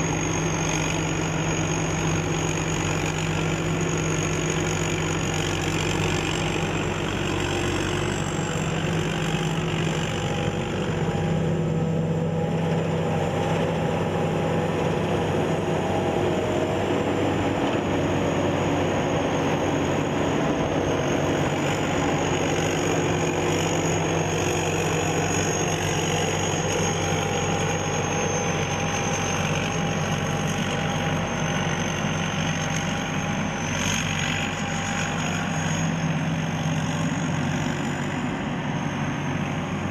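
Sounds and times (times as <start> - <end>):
combine harvester engine drone: 0.0 - 39.9
high-pitched whine: 0.0 - 39.9.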